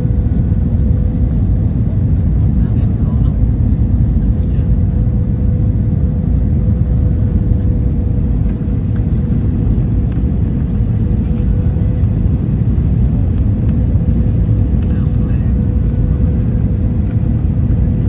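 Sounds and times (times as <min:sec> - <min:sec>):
engines and airflow rumble: 0:00.0 - 0:18.0.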